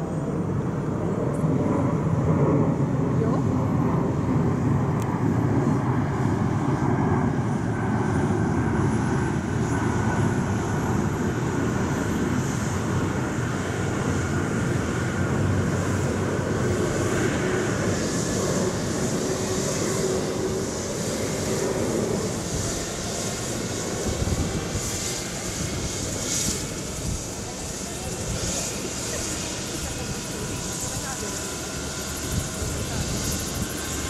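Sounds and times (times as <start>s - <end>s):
helicopter running with rotor chop: 0.0s - 34.0s
high turbine whine: 0.0s - 34.0s.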